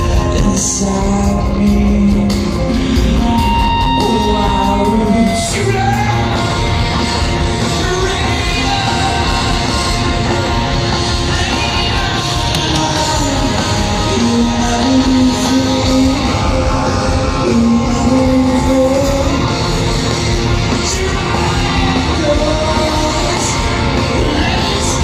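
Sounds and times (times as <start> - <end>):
electric guitar: 0.0 - 25.0
heavy rock music: 0.0 - 25.0
person singing: 0.0 - 25.0.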